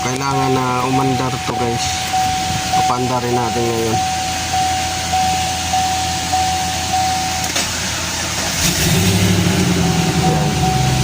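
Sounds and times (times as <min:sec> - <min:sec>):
car chime pulsing: 0:00.0 - 0:08.2, 0:09.6 - 0:11.0
car engine cranking and starting: 0:00.0 - 0:11.0.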